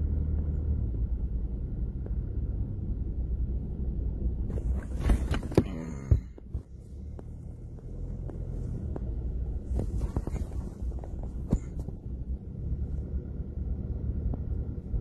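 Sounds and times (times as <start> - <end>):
car driving in gusting wind: 0.0 - 15.0.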